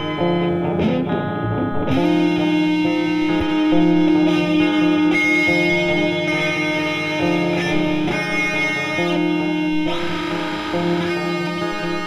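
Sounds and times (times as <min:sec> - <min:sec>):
plucked guitar chords: 0:00.0 - 0:12.0.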